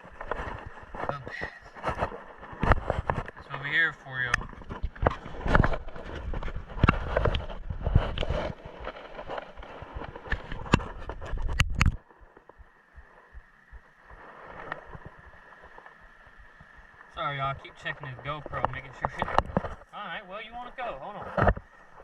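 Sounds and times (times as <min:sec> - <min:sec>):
microphone handling noise: 0:00.0 - 0:15.8, 0:17.6 - 0:19.9, 0:20.5 - 0:22.0.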